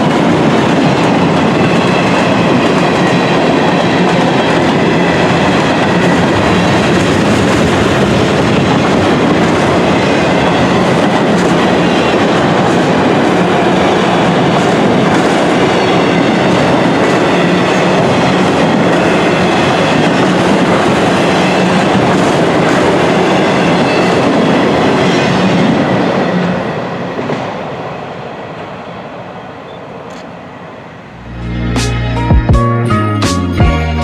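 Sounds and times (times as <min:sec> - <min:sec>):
train wheels clattering on rails: 0:00.0 - 0:28.8.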